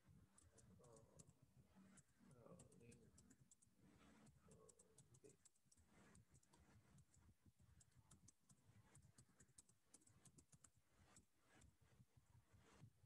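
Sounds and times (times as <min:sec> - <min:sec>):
keyboard typing: 0:00.0 - 0:11.9.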